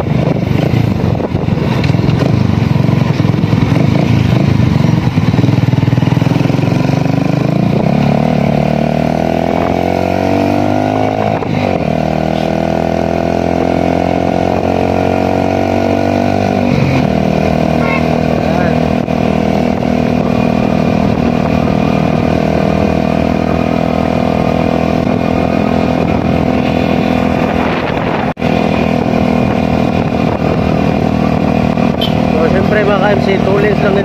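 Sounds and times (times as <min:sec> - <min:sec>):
motorcycle engine: 0:00.0 - 0:34.0
wind noise on microphone: 0:00.0 - 0:34.0.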